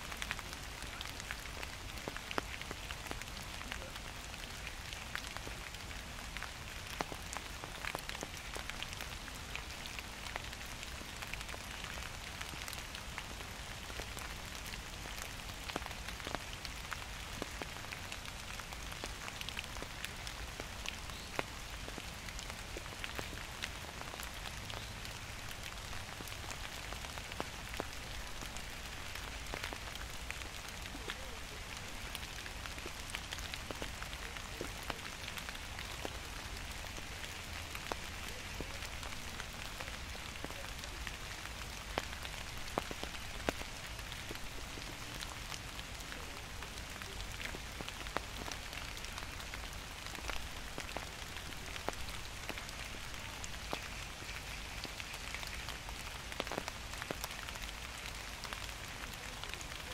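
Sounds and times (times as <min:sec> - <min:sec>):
rain falling: 0:00.0 - 0:59.9
raindrops pattering: 0:00.0 - 0:59.9.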